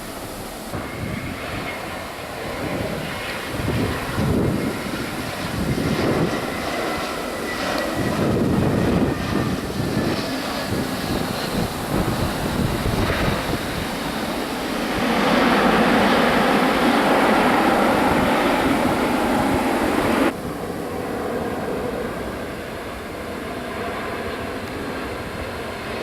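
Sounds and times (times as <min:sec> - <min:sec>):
jet airliner rush: 0:00.0 - 0:26.0.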